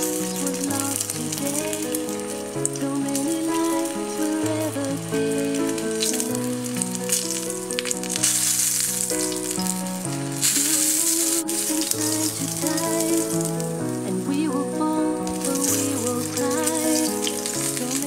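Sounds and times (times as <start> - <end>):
background music: 0.0 - 18.0
steak sizzling in oil: 0.0 - 18.0.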